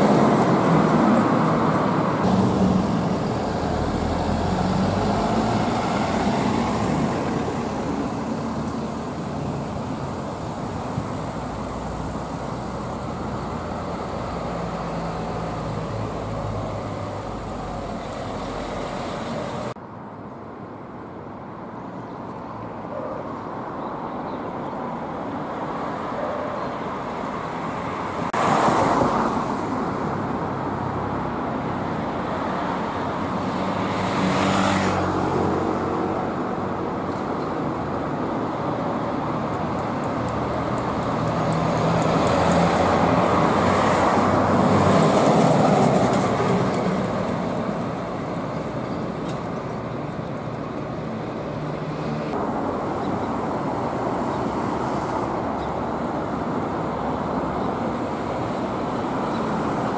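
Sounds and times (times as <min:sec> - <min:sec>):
trucks driving past: 0:00.0 - 0:19.8, 0:26.8 - 0:59.9
city street traffic: 0:00.0 - 0:59.9.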